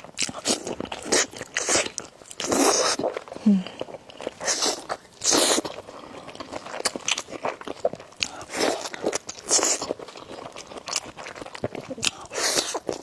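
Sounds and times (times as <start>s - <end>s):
wet chewing: 0.1s - 13.0s.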